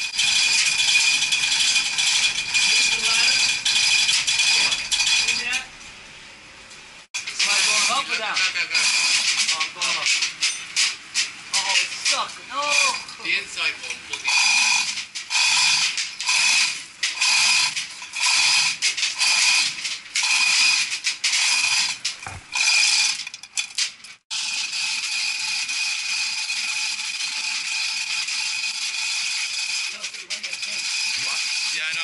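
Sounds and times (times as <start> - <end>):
hoist chain rattling: 0.0 - 5.6, 7.2 - 32.0.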